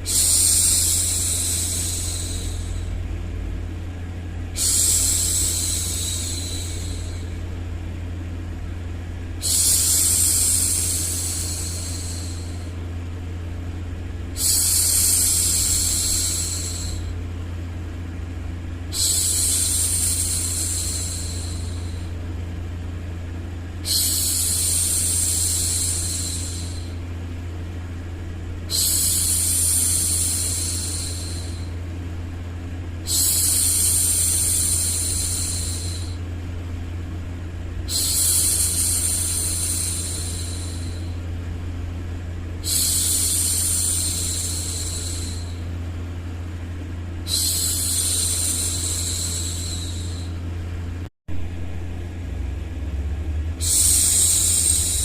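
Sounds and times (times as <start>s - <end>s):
white noise rumble: 0.0s - 55.0s.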